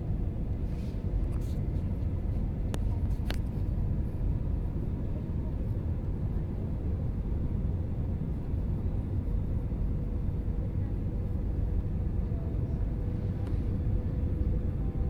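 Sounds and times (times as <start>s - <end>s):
faint steady hum: 0.0s - 15.0s
jet engines and airflow rumble: 0.0s - 15.0s.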